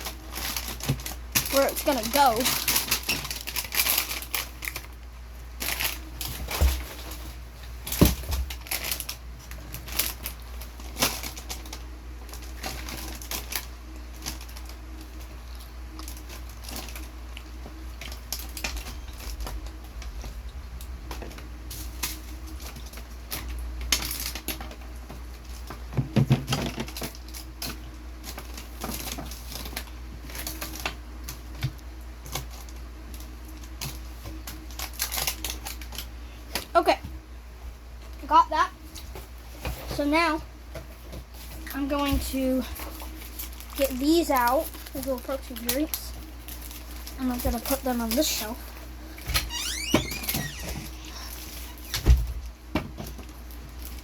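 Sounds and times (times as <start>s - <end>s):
wrapped candy clicking and crinkling: 0.0s - 36.8s, 41.0s - 54.0s.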